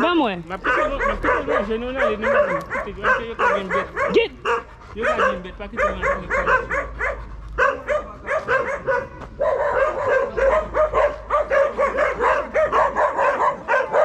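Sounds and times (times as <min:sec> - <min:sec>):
small dogs barking aggressively: 0:00.0 - 0:14.0.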